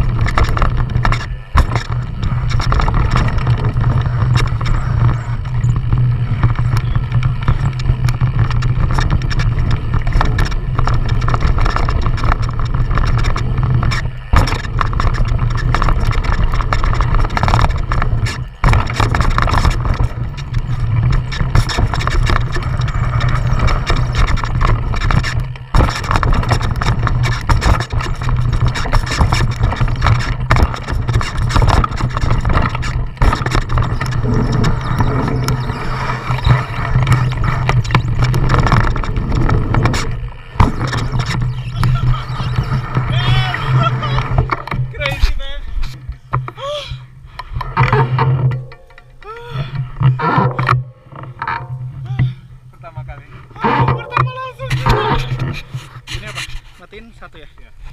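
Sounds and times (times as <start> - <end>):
bike rattling over bumps: 0.0 - 57.9.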